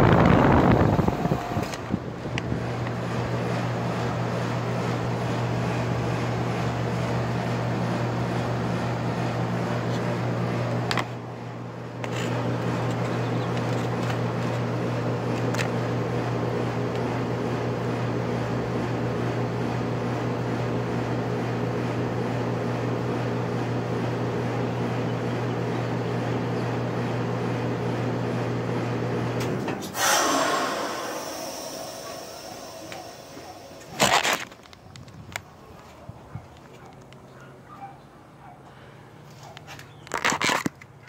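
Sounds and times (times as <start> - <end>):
heat pump compressor hum: 0.0 - 37.2
fan noise: 0.0 - 41.0.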